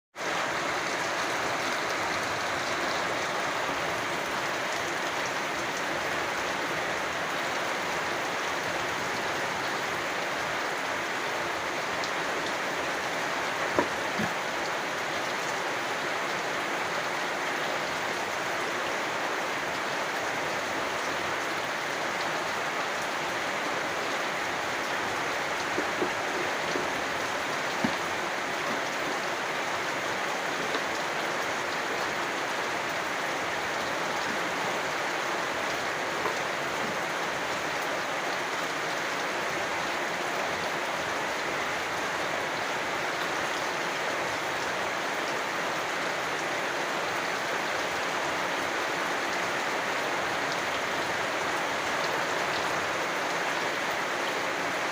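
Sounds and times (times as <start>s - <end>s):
steady rainfall: 0.1s - 54.9s.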